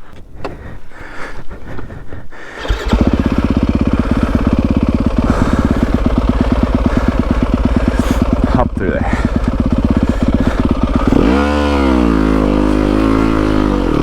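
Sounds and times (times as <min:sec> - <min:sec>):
motorcycle engine running: 0:02.6 - 0:14.0.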